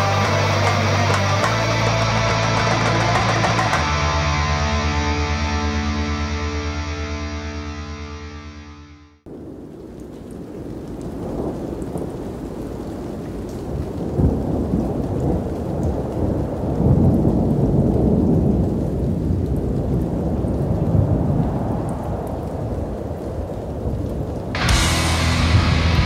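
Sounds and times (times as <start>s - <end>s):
rain: 0.0s - 6.2s, 9.3s - 26.0s.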